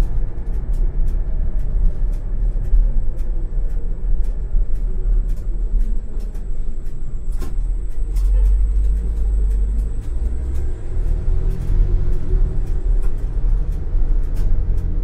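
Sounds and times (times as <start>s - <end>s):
tram low rumble: 0.0s - 15.0s.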